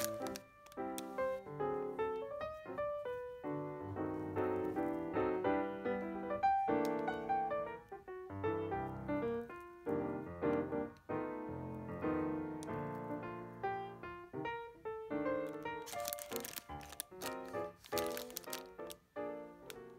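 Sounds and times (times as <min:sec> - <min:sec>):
piano music: 0:00.0 - 0:19.9.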